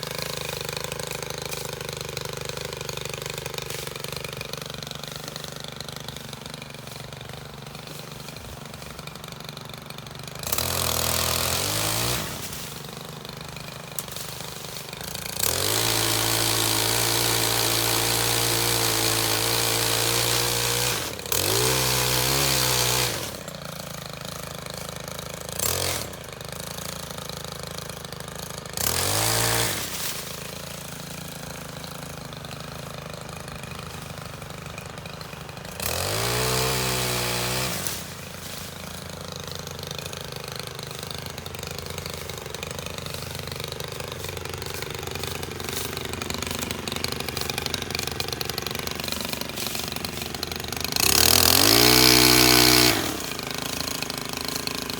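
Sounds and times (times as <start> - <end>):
pole saw engine revving: 0.0 - 54.9.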